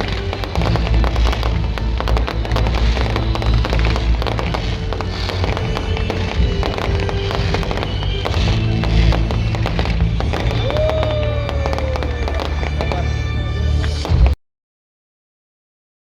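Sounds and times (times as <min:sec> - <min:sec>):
fireworks bangs and crackles: 0:00.0 - 0:14.4
low rumble: 0:00.0 - 0:14.4.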